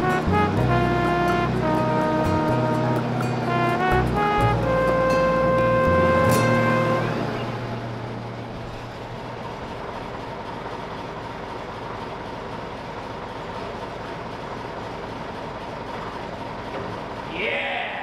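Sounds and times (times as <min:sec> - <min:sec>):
diesel engine idling: 0:00.0 - 0:17.3.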